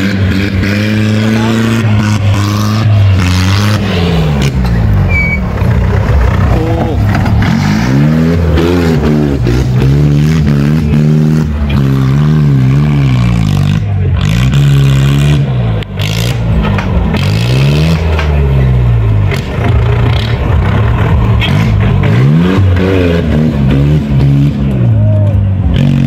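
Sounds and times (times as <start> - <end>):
off-road engine revving hard: 0.0 - 26.0.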